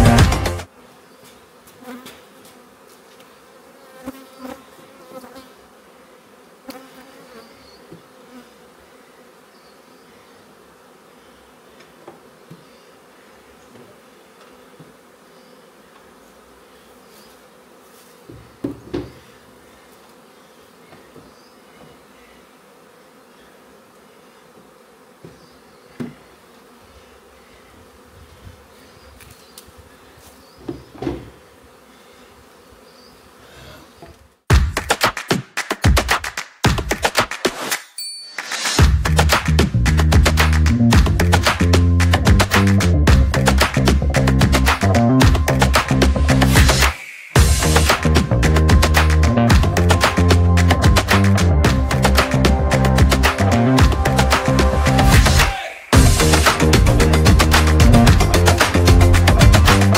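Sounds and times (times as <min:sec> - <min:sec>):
honeybees buzzing: 0:00.0 - 0:34.5, 0:38.4 - 0:59.9.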